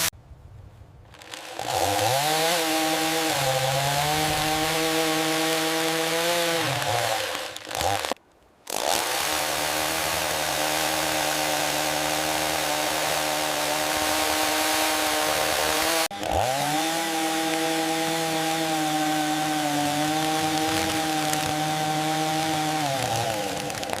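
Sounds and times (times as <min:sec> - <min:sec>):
chainsaw cutting a log: 0:01.1 - 0:24.0.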